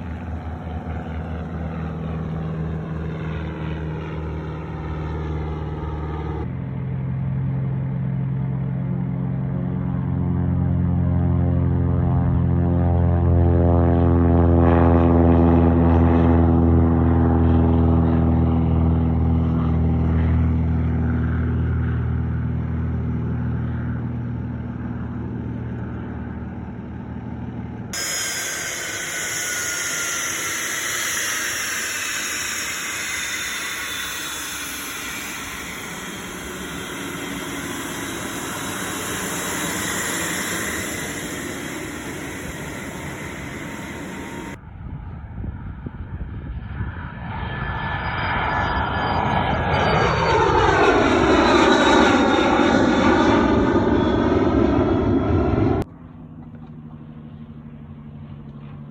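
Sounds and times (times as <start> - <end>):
aircraft passing by: 0.0 - 58.9
propeller aircraft engine droning: 0.0 - 58.9.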